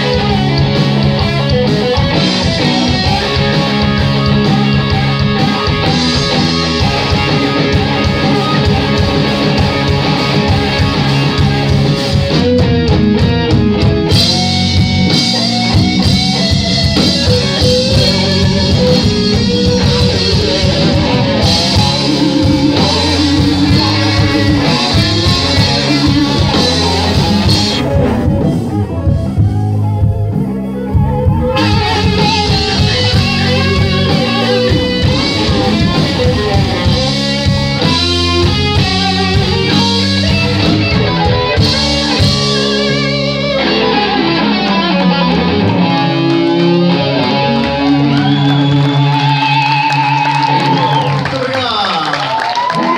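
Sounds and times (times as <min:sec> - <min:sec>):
bass guitar: 0:00.0 - 0:52.9
drum kit: 0:00.0 - 0:52.9
electric guitars: 0:00.0 - 0:52.9.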